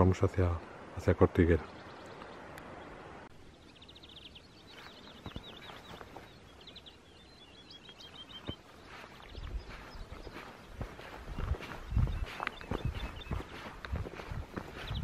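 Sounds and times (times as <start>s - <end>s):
faint outdoor background: 0.0s - 15.0s
songbird singing chirps and trills: 0.0s - 15.0s.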